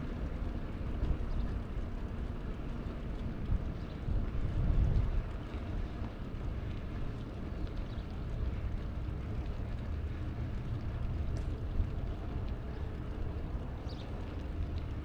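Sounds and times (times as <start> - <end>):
bicycle road noise: 0.0 - 15.0
wind buffeting the microphone: 0.0 - 15.0.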